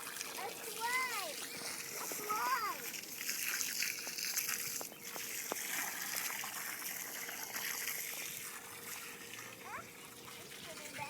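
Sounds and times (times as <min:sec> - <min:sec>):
water running from garden hose: 0:00.0 - 0:11.0.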